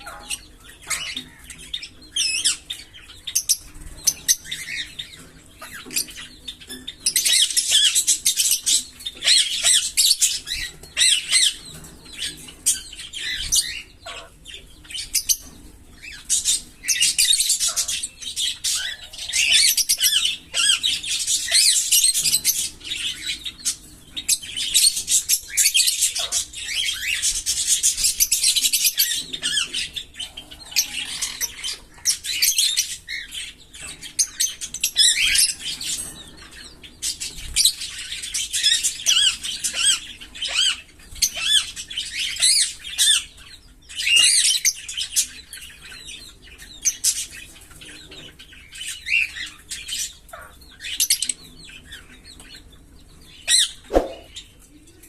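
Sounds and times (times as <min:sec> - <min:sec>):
lovebirds chattering songs: 0:00.0 - 0:55.0.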